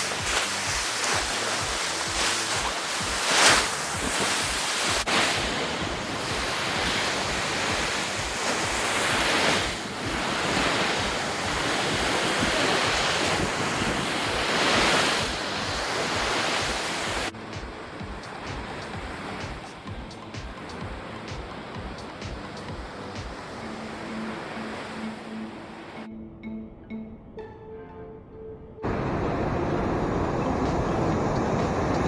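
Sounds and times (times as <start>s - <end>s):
wind buffeting microphone: 0.0s - 23.5s, 28.8s - 32.0s
ocean surf washing on beach: 0.0s - 26.1s, 28.8s - 32.0s.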